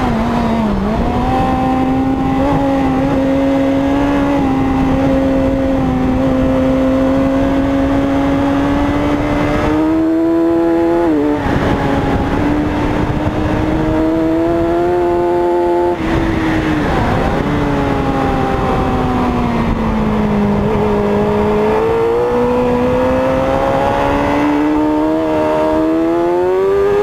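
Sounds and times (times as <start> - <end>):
racing motorcycle engine revving: 0.0 - 27.0.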